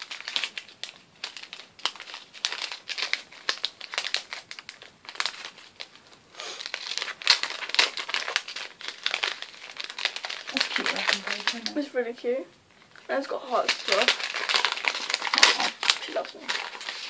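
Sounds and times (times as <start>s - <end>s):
gift wrapping crinkling: 0.0s - 17.0s.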